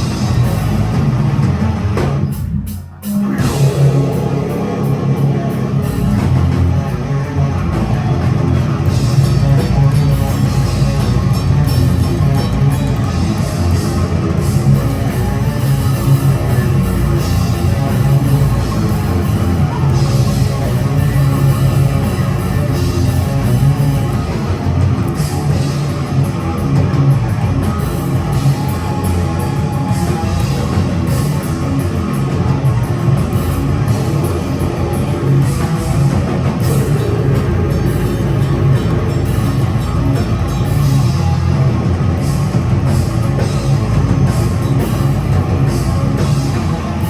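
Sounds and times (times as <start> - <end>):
death metal band playing: 0.0 - 47.0.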